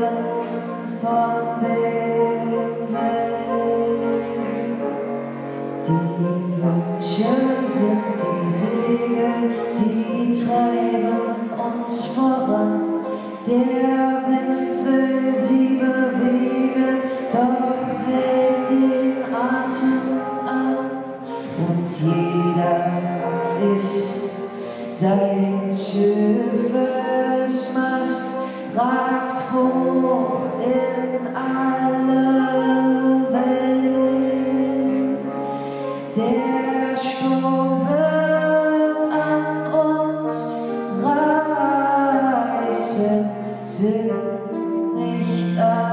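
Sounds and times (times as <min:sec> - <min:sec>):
wind ensemble playing: 0:00.0 - 0:42.7
woman singing into a microphone: 0:00.0 - 0:45.9.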